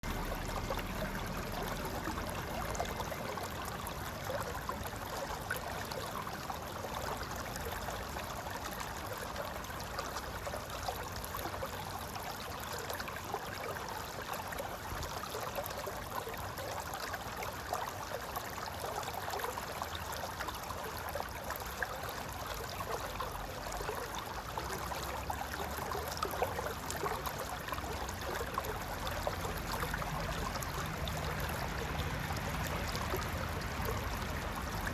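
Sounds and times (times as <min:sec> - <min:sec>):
small water splashes: 0:00.0 - 0:34.9.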